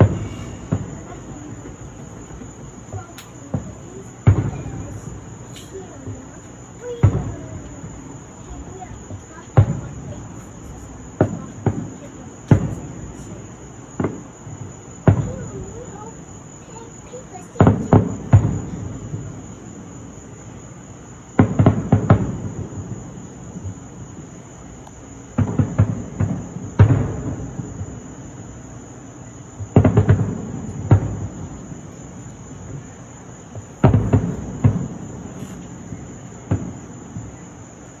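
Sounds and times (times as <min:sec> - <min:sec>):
crickets chirping: 0:00.0 - 0:38.0
fireworks bursting with booms: 0:00.0 - 0:38.0.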